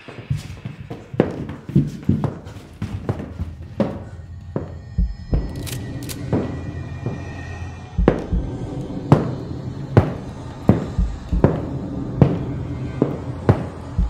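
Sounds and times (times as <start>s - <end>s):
low steady drone: 0.0s - 14.0s
deep heartbeat-like thumps: 0.4s - 14.0s.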